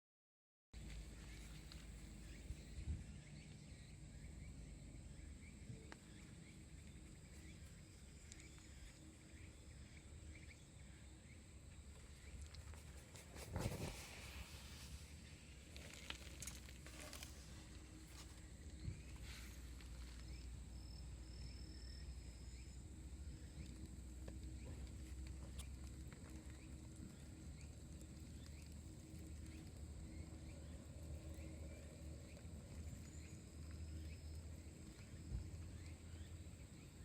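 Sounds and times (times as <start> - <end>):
low steady rumble: 0.8 - 37.0.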